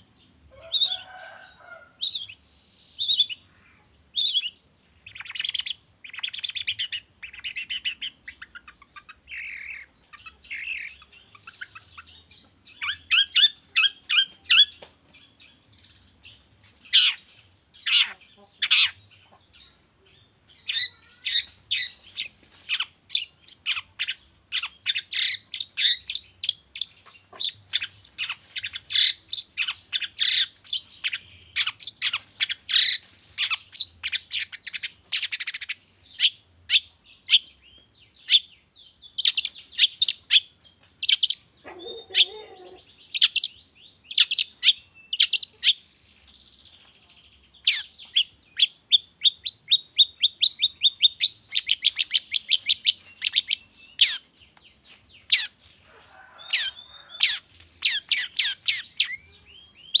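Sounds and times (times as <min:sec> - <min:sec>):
bird chattering and trilling: 0:00.0 - 1:00.0.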